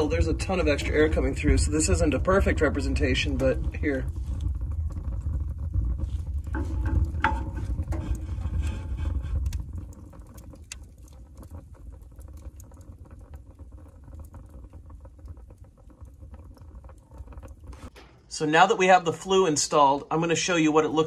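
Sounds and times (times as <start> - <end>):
low rumble: 0.0 - 18.5
wood fire crackling and popping: 0.0 - 21.0.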